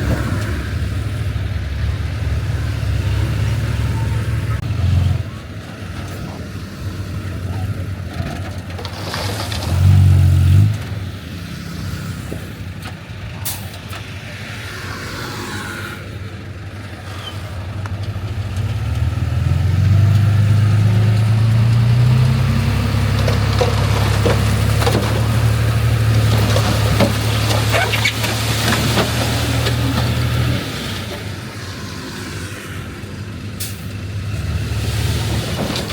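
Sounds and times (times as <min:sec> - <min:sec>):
heavy diesel engine running: 0:00.0 - 0:09.8, 0:16.1 - 0:35.9.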